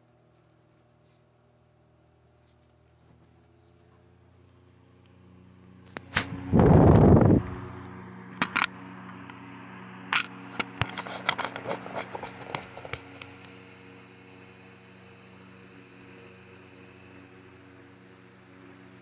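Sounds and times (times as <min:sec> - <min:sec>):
electric fan motor humming: 0:00.0 - 0:19.0.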